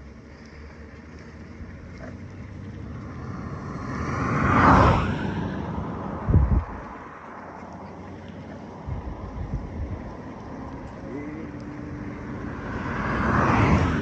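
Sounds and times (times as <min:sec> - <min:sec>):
vehicle passing by: 0:00.0 - 0:14.0.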